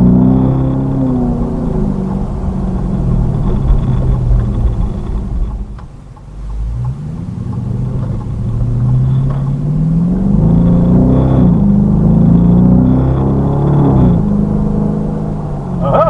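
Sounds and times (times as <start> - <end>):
car engine: 0.0 - 16.0
road noise inside car: 0.0 - 16.0.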